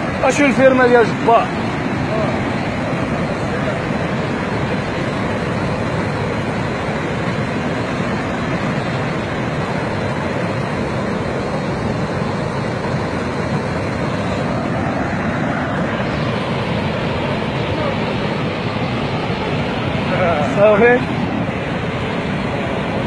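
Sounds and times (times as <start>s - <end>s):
flood water rushing: 0.0s - 23.0s.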